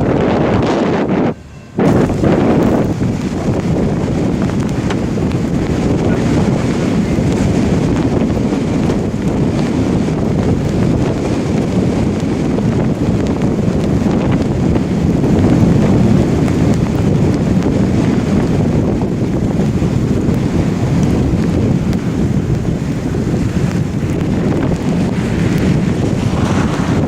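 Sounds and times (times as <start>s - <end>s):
blizzard wind buffeting microphone: 0.0s - 27.0s.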